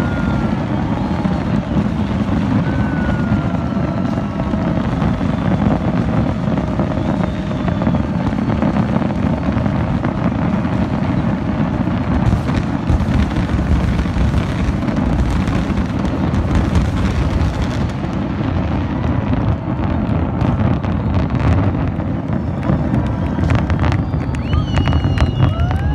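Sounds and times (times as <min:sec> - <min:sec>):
fireworks exploding and crackling: 0:00.0 - 0:25.9.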